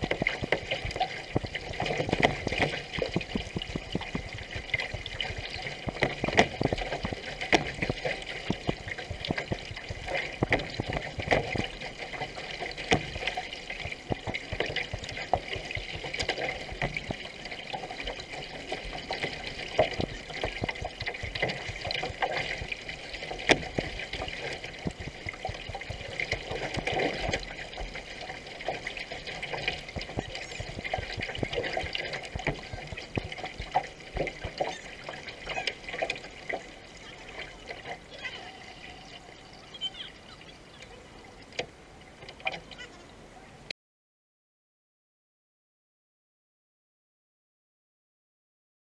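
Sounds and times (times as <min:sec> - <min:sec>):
water dripping: 0:00.0 - 0:43.2
paddle strokes splashing water: 0:00.0 - 0:43.7
water rushing along hull: 0:00.0 - 0:43.7.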